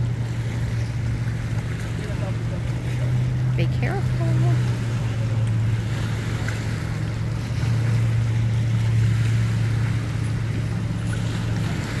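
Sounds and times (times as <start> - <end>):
motorboat engine idling: 0.0 - 12.0
wind: 0.0 - 12.0.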